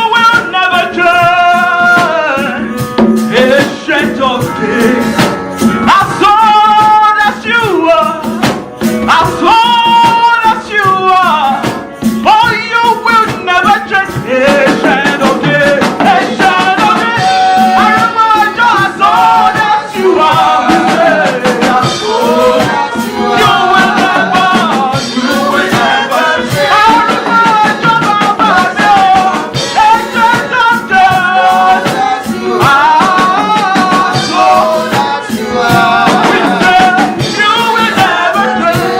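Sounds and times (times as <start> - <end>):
band playing: 0.0 - 38.9
percussion beat: 0.0 - 38.9
voices singing: 0.0 - 38.9.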